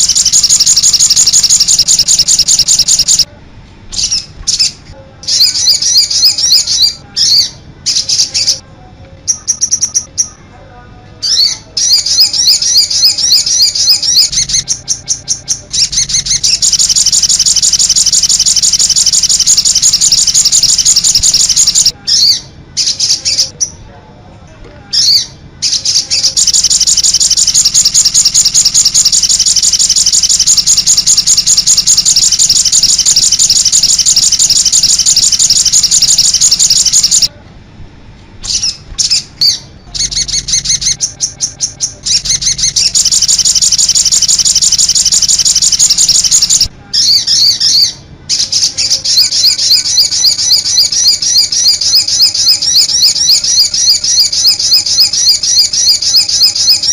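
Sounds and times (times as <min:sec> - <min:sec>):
songbird high-pitched trills: 0:00.0 - 0:03.3, 0:03.9 - 0:08.6, 0:09.3 - 0:10.4, 0:11.2 - 0:23.8, 0:25.0 - 0:37.3, 0:38.5 - 0:56.9.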